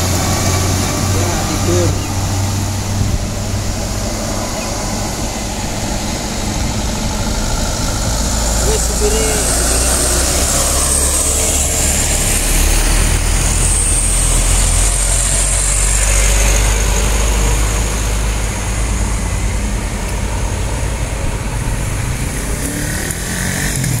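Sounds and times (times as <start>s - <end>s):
diesel trucks driving past: 0.0s - 24.0s.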